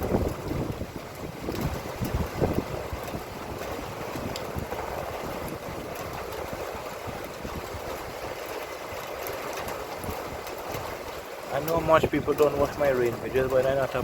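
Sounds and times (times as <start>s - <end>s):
raindrops ticking: 0.0s - 14.0s
steady rain hiss: 0.0s - 14.0s
wind buffeting microphone: 0.0s - 14.0s.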